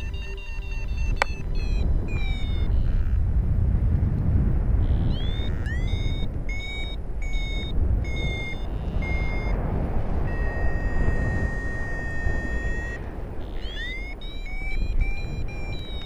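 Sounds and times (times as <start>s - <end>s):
variometer beeping: 0.0s - 16.0s
wind rumbling on microphone: 0.0s - 16.0s.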